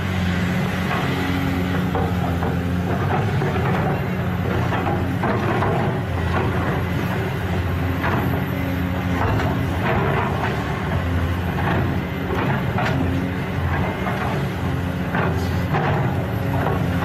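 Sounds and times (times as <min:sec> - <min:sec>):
diesel excavator engine running: 0:00.0 - 0:17.0
machine knocks and clanks: 0:00.5 - 0:17.0.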